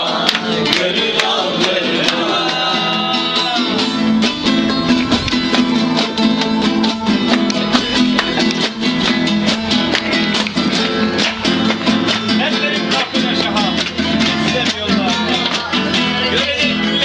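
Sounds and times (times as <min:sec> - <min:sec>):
acoustic guitar strummed fast: 0:00.0 - 0:17.0.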